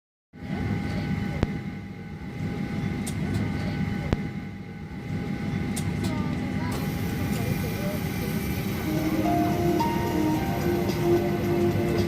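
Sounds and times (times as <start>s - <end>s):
aircraft cabin hum with whine: 0.4s - 12.0s.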